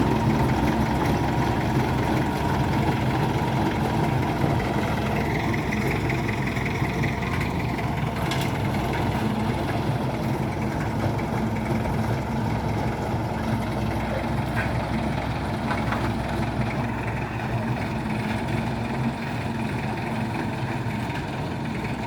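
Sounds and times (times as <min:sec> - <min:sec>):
heavy machinery engine running: 0:00.0 - 0:22.0.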